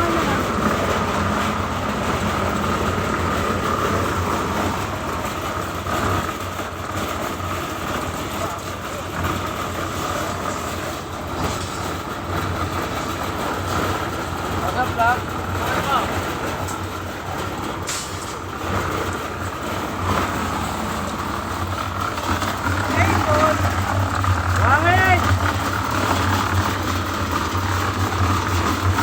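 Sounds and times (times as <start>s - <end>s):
construction machinery running: 0.0s - 29.0s.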